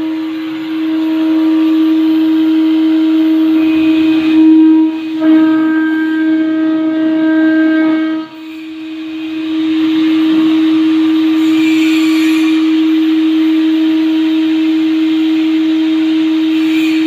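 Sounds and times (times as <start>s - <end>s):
router spindle whining: 0.0s - 17.0s.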